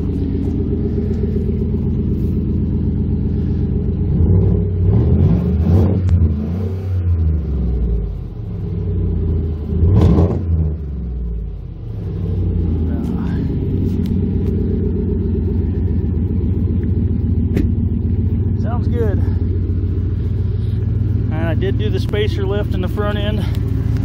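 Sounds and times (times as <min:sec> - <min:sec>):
engine idling and revving: 0:00.0 - 0:24.0.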